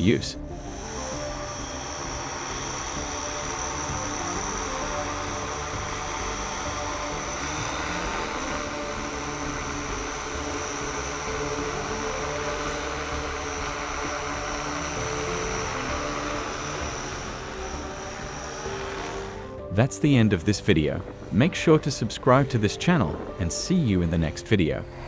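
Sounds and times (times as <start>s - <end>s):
drone propellers buzzing: 0.0s - 25.0s.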